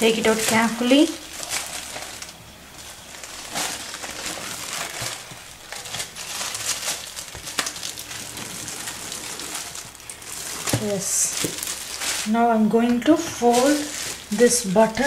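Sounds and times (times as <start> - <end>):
wrapping crinkling: 0.0 - 15.0.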